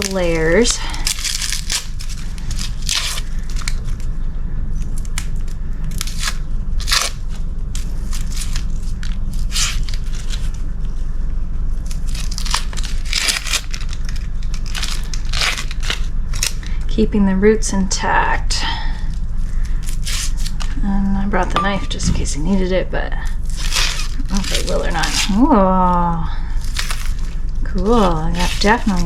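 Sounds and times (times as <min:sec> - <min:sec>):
onion skin crackling and tearing: 0:00.0 - 0:11.0, 0:11.6 - 0:16.9, 0:19.0 - 0:20.9, 0:23.2 - 0:29.0
steady low hum: 0:00.0 - 0:29.0.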